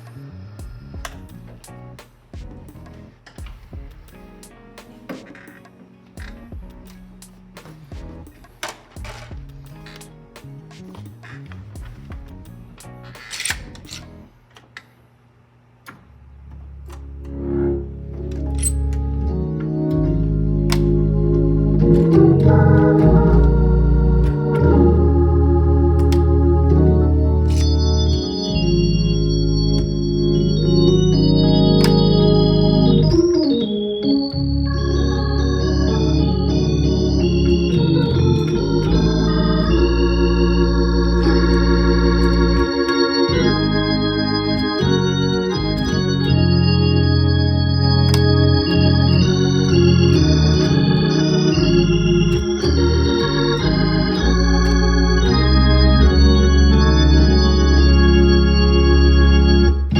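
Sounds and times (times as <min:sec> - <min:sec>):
organ chords and melody: 0:00.0 - 0:14.3, 0:16.2 - 0:59.9.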